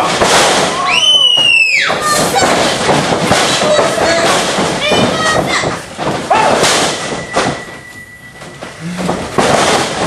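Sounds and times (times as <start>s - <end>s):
wrestlers thudding on ring: 0.0s - 10.0s.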